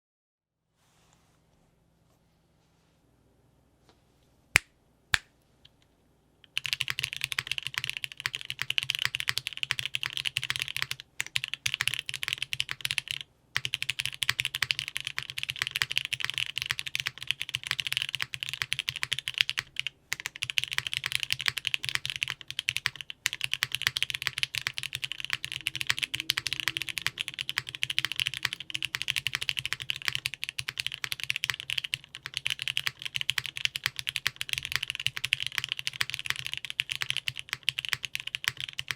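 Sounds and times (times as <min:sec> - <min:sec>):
mechanical keyboard typing: 0:06.5 - 0:38.9.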